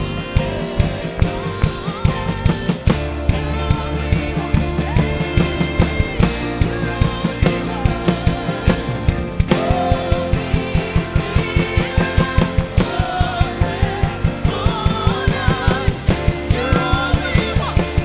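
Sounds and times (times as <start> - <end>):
drum kit beat: 0.0 - 18.0
keyboard and guitar chords: 0.0 - 18.0
person singing: 0.0 - 18.0.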